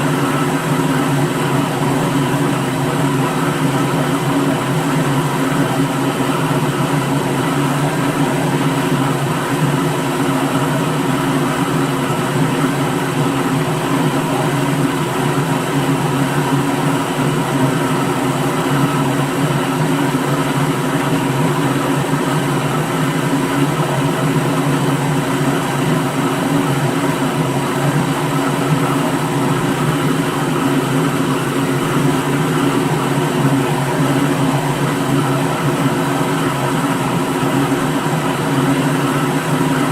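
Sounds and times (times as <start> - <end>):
blender motor humming: 0.0 - 39.9.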